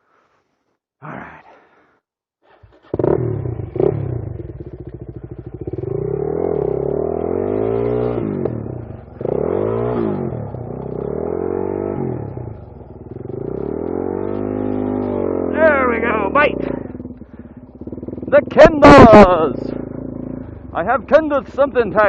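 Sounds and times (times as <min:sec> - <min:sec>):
dirt bike engine revving: 0:02.6 - 0:22.0.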